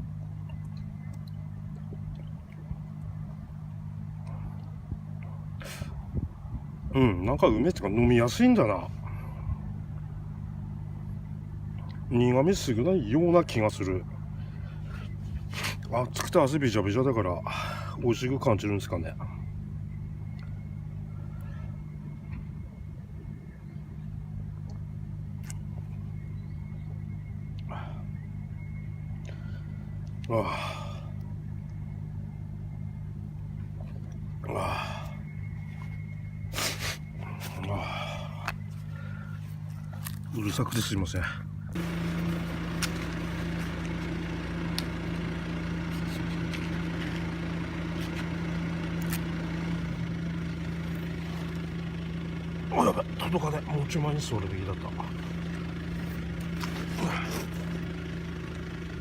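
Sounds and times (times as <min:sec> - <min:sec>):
faint high whine: 0:00.0 - 0:57.8
engine running steadily: 0:00.0 - 0:59.0
low mechanical hum: 0:00.0 - 0:59.0.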